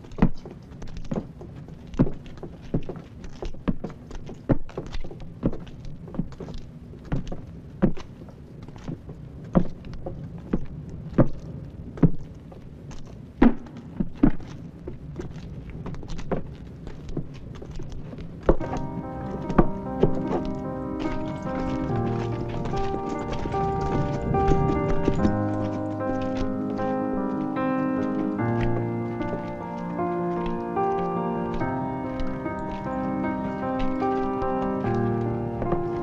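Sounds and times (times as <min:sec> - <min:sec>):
footsteps on stone: 0:00.0 - 0:36.0.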